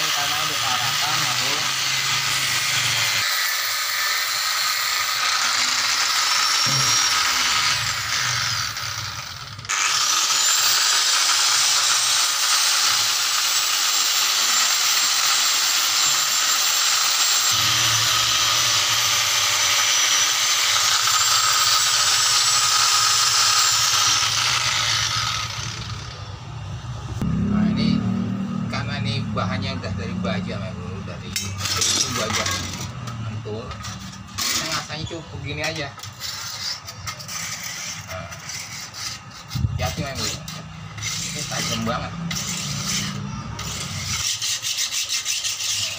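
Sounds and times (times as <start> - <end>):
angle grinder sanding steel: 0.0 - 26.3, 30.4 - 45.9
grinder motor winding down: 0.0 - 38.8, 39.4 - 44.6.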